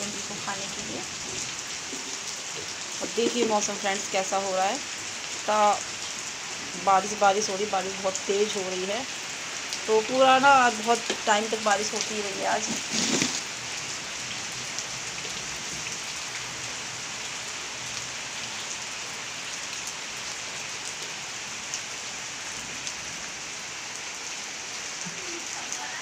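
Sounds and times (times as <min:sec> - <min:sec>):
heavy rain on water and roofs: 0:00.0 - 0:26.0.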